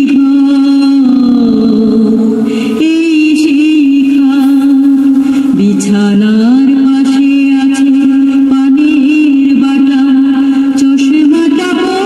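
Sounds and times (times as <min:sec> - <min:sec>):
chant-like vocal melody: 0:00.0 - 0:12.0
steady drone: 0:00.0 - 0:12.0.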